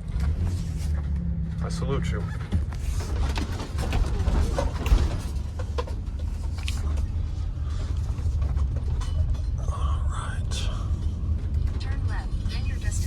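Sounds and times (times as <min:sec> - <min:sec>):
car cabin road noise: 0:00.0 - 0:13.0
faint clicks and rattles: 0:00.0 - 0:13.0.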